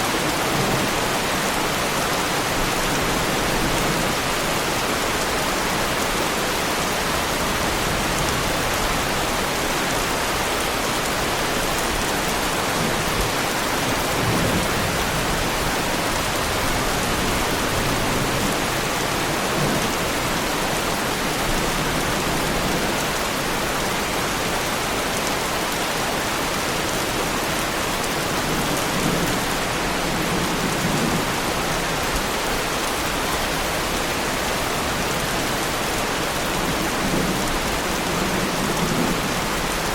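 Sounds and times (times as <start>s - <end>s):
heavy rain on car bodywork: 0.0s - 39.9s.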